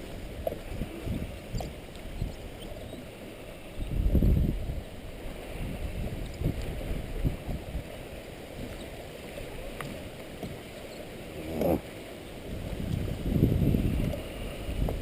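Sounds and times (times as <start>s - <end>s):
water sloshing around kayak: 0.0s - 15.0s.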